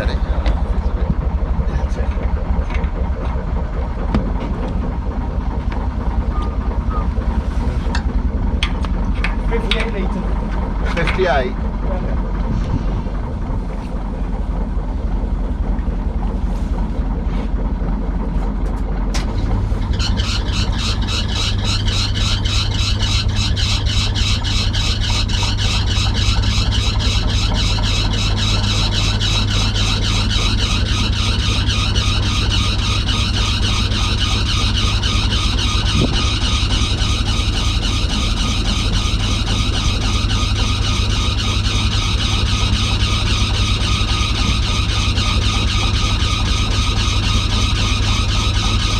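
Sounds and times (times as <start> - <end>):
boat diesel engine running: 0.0 - 48.9.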